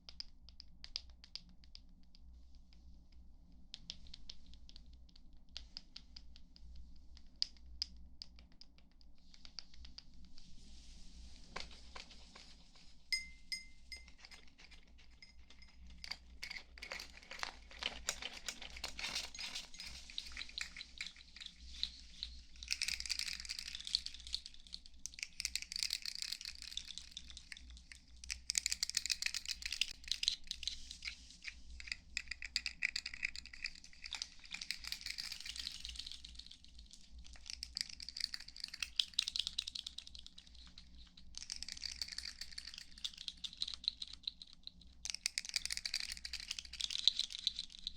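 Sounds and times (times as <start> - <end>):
crackly tapping and scratching: 0.0 - 10.5, 11.2 - 47.9.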